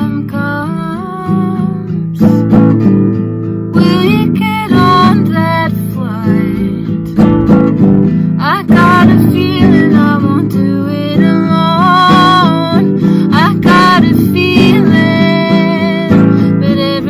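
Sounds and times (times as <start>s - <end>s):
woman singing: 0.0s - 3.0s, 3.7s - 17.0s
strummed acoustic guitar: 0.0s - 17.0s.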